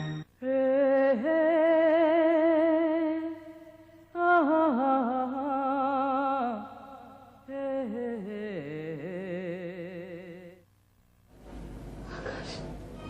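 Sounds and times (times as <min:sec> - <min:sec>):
person singing with vibrato: 0:00.0 - 0:10.6.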